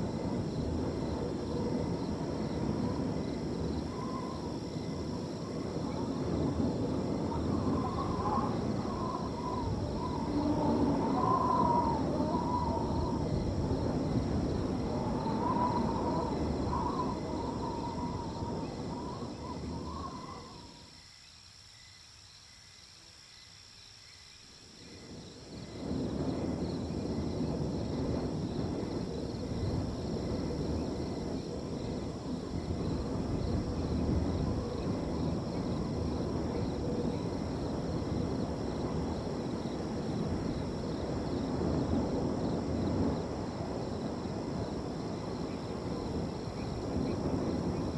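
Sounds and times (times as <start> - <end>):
wind blowing in gusts: 0.0 - 21.1, 24.5 - 47.9
crickets chirping: 0.0 - 47.9.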